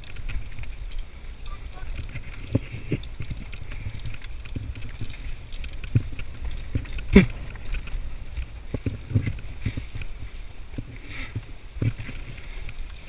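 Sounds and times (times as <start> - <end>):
bike knocks and rattles: 0.0 - 13.0
wind rumble on microphone: 0.0 - 13.0.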